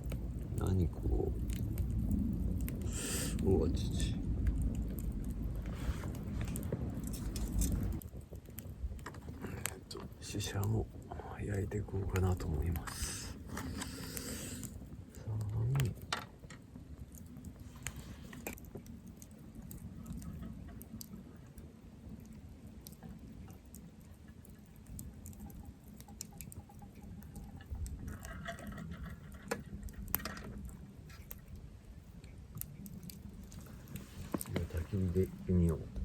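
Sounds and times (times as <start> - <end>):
campfire crackling and popping: 0.0 - 36.0
low steady rumble: 0.0 - 36.0.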